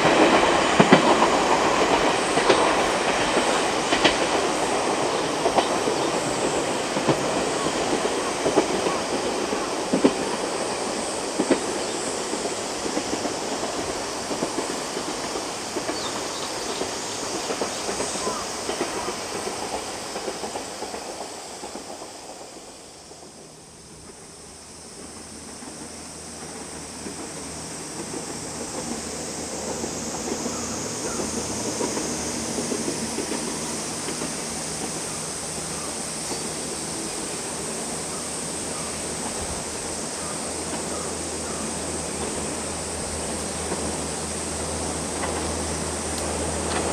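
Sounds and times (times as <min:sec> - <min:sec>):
diesel railcar running past: 0:00.0 - 0:46.9
wheels clicking over rail joints: 0:00.0 - 0:46.9.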